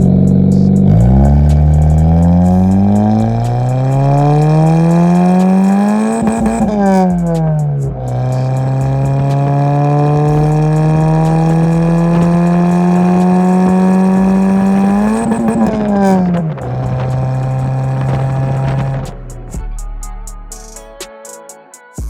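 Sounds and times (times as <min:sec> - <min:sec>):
car engine revving under load: 0:00.0 - 0:19.6.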